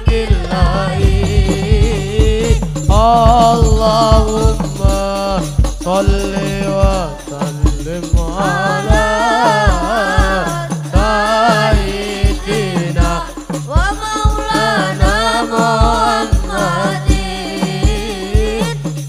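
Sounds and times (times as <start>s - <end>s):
frame drums beaten: 0.0s - 19.0s
person singing into microphone: 0.0s - 19.0s.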